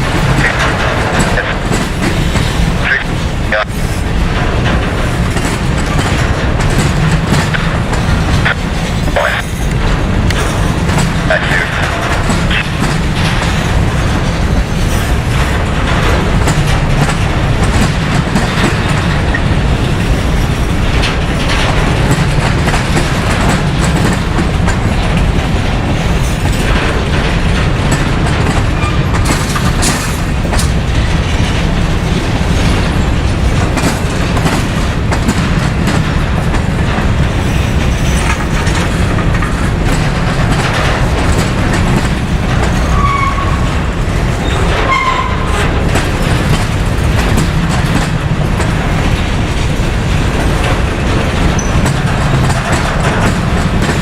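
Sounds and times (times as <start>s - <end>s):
train cars rolling past: 0.0s - 54.0s
wheels clicking over rail joints: 0.0s - 54.0s.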